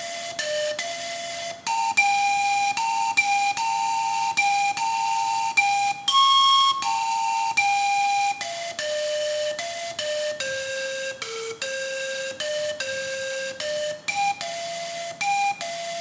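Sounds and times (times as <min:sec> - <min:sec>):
breathy panpipe melody: 0:00.0 - 0:16.0.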